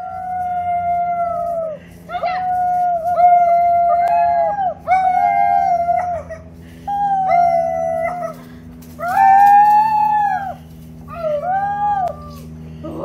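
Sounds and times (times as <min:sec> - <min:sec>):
girls howling like wolves: 0:00.0 - 0:13.0.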